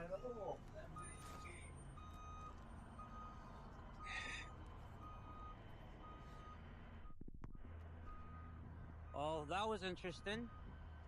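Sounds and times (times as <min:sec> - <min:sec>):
vehicle backup alarm beeping: 0:00.0 - 0:09.3.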